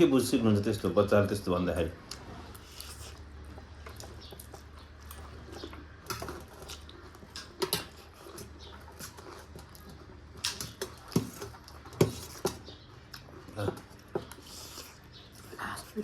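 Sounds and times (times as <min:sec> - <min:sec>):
chewing and slurping noodles: 0:02.1 - 0:15.6.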